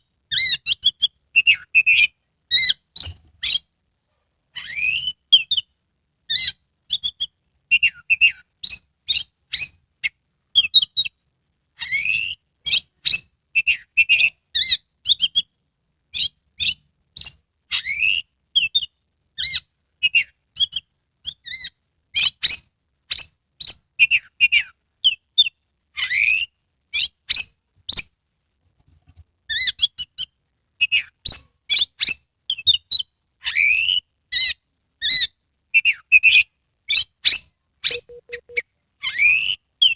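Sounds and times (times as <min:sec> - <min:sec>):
songbird whistling and chattering: 0:00.3 - 0:03.6, 0:04.6 - 0:05.7, 0:06.3 - 0:09.8, 0:10.6 - 0:11.1, 0:11.8 - 0:15.5, 0:16.2 - 0:28.0, 0:29.5 - 0:39.9.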